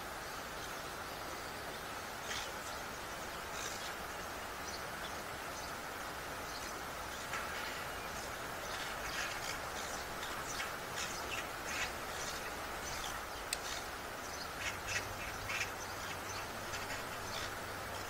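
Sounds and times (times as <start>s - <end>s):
steady outdoor hiss: 0.0s - 18.0s
birds chirping: 0.5s - 18.0s.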